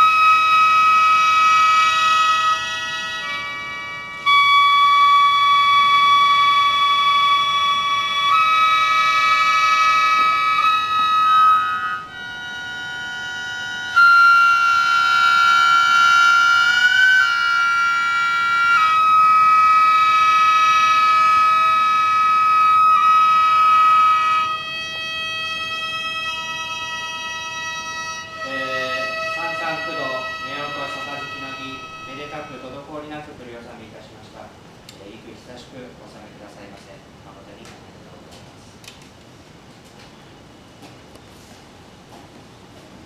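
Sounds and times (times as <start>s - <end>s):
ceremonial wind music: 0.0s - 36.8s.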